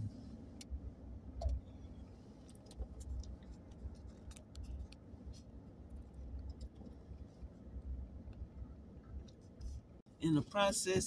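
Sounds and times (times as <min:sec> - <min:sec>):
road and engine rumble in cabin: 0:00.0 - 0:11.0.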